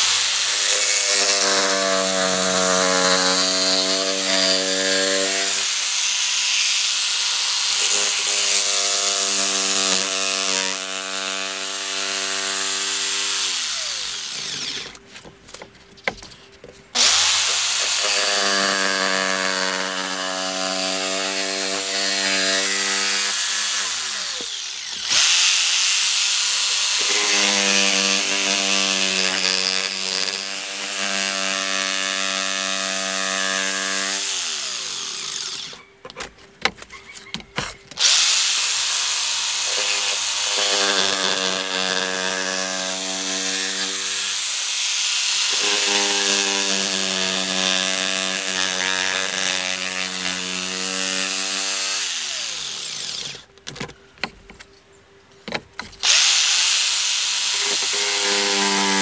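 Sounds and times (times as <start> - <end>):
jigsaw cutting sheet metal: 0.0 - 15.0, 17.0 - 35.8, 38.0 - 53.5, 56.0 - 59.0.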